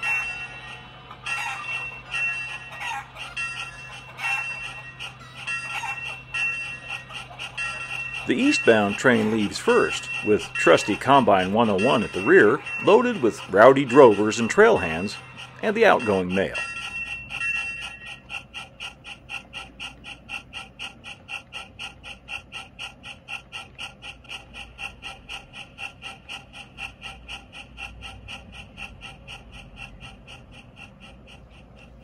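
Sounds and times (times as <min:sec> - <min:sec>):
model train clicking on track: 0:00.0 - 0:32.0.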